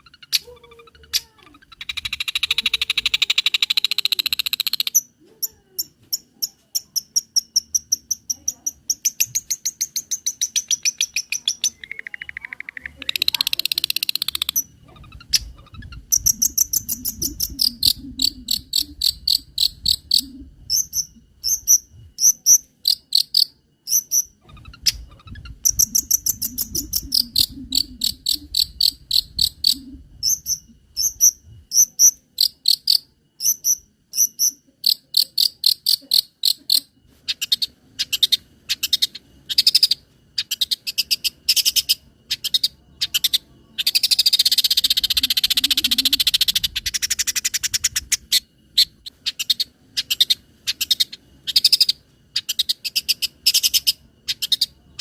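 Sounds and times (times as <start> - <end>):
shrike singing varied song: 0.0 - 55.0.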